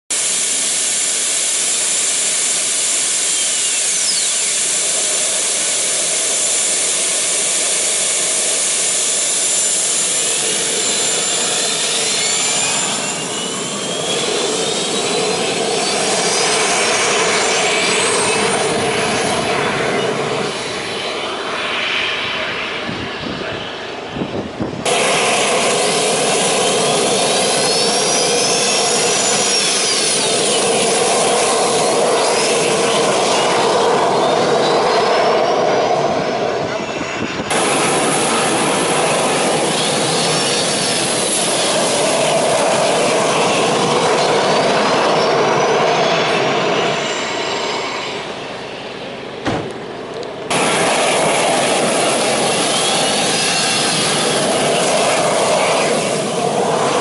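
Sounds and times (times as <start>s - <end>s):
turbine engine whining: 0.1s - 57.0s.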